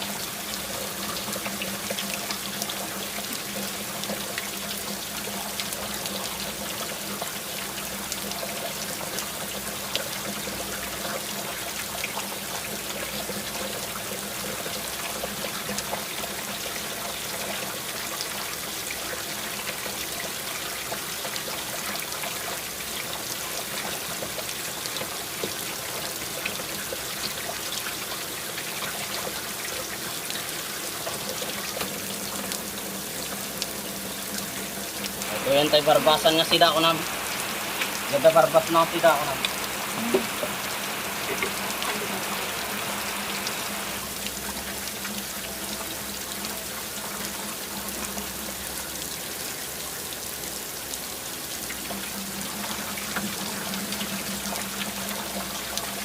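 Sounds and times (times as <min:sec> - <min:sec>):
water pouring and trickling: 0:00.0 - 0:56.0.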